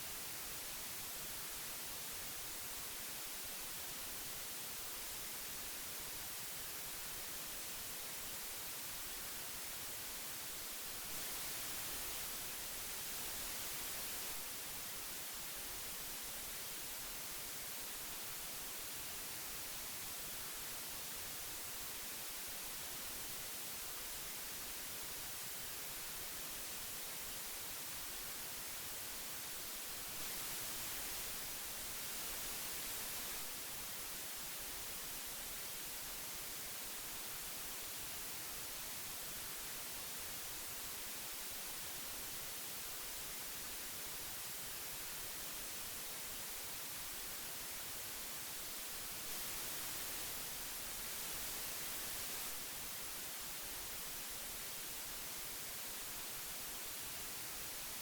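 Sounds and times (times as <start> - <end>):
magnetic tape hiss: 0.0 - 58.0.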